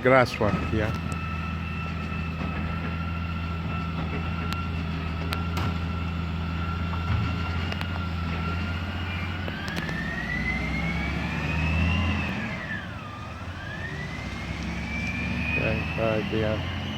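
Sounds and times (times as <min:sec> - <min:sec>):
garbage truck diesel engine: 0:00.0 - 0:16.9
high whine: 0:00.0 - 0:16.9.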